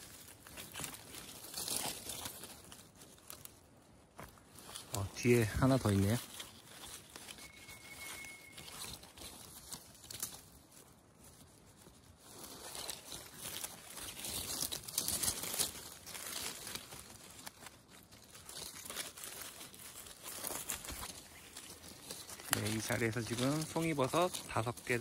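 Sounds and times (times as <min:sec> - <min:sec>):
forest litter rustling and crackling: 0:00.0 - 0:25.0.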